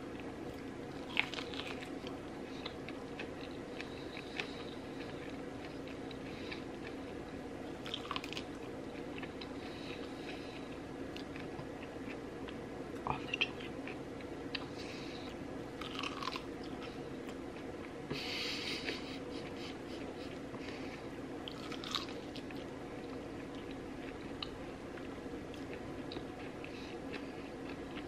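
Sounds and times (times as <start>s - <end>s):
steady low hum: 0.0s - 28.0s
chewing and crunching corn: 0.5s - 12.6s, 15.7s - 18.0s, 19.0s - 28.0s.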